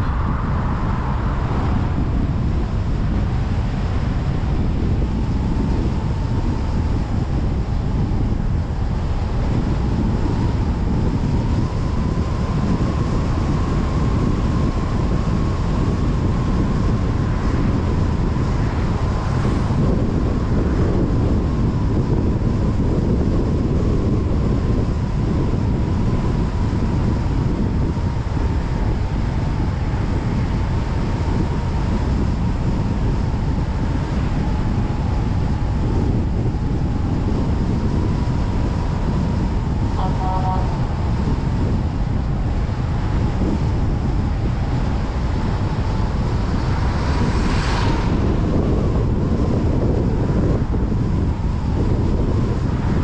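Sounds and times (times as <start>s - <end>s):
wind rush: 0.0s - 53.0s.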